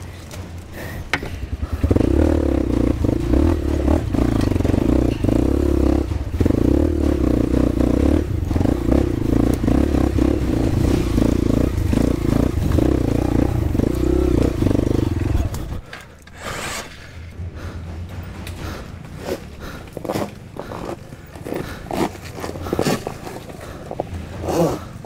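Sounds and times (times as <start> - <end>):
rocks clattering under tyres: 0.0 - 16.4, 18.0 - 25.0
dirt bike engine under throttle: 0.0 - 25.0.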